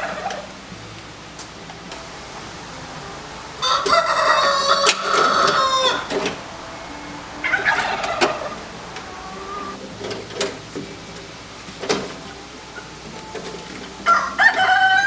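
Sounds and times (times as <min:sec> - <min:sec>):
rooster crowing: 0:01.9 - 0:15.0.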